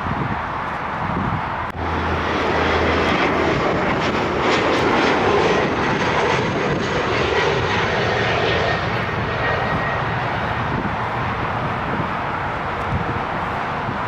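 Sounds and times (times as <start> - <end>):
jet airliner passing close: 0.1 - 14.0.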